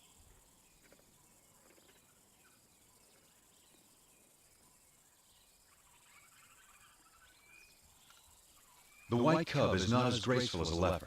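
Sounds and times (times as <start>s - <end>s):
faint chirps: 0.0s - 11.0s
high insect hiss: 0.0s - 11.0s.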